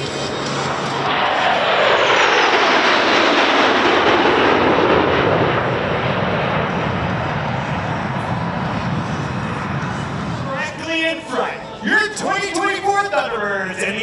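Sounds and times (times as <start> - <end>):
fighter jet roaring past: 0.0 - 14.0.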